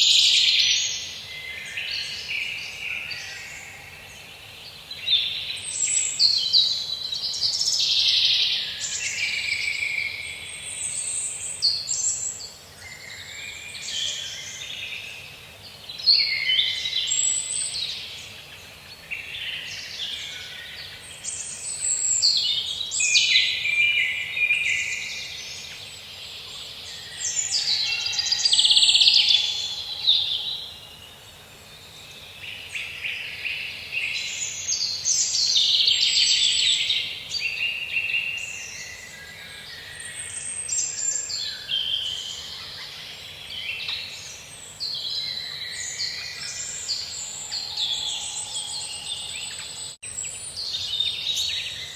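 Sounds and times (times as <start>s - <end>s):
faint steady hiss: 0.0s - 51.9s
songbirds singing: 0.0s - 51.9s.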